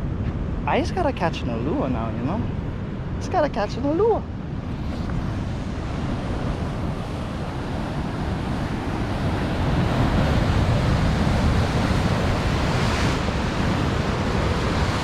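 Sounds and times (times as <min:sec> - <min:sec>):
ocean surf washing on shore: 0:00.0 - 0:15.0
wind buffeting microphone: 0:00.0 - 0:15.0.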